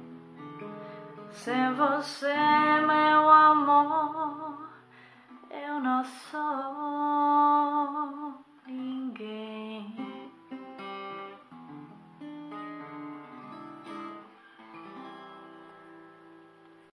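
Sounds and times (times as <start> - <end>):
acoustic guitar playing: 0.0 - 16.9.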